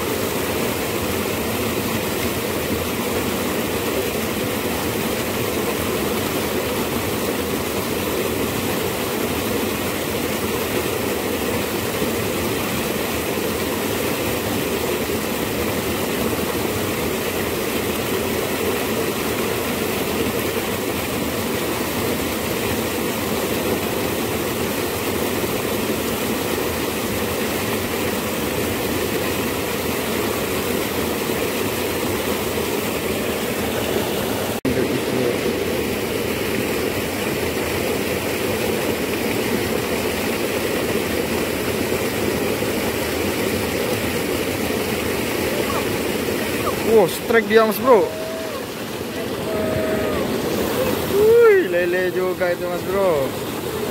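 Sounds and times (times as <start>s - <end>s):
water rushing in a canal: 0.0s - 53.9s.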